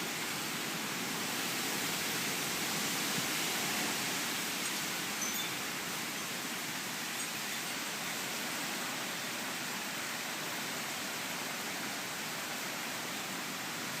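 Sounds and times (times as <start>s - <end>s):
hurricane wind: 0.0s - 14.0s
rain: 0.0s - 14.0s.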